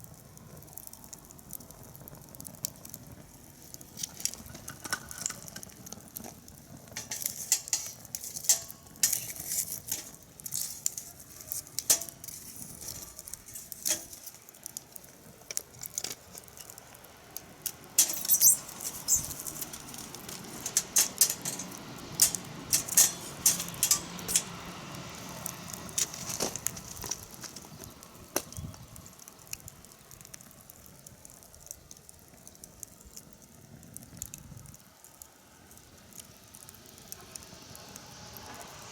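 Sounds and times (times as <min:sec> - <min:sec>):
fire hissing: 0:00.0 - 0:38.9
wood fire crackling: 0:00.0 - 0:38.9.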